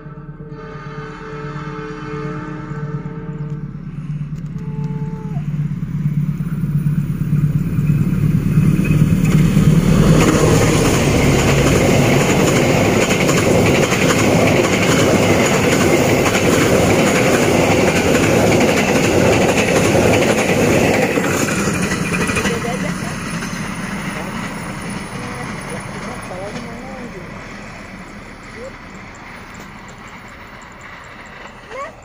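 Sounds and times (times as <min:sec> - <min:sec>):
train passing at speed: 0:00.0 - 0:32.0
steel wheels rushing on rails: 0:01.3 - 0:32.0.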